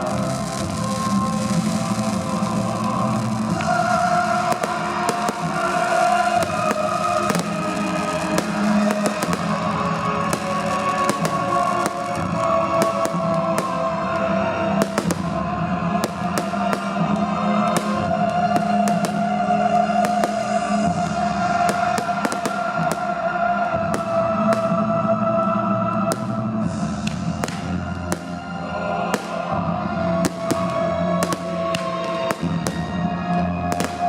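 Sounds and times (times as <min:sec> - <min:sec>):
firework bangs and crackles: 0:00.0 - 0:34.0
music over loudspeakers: 0:00.0 - 0:34.0.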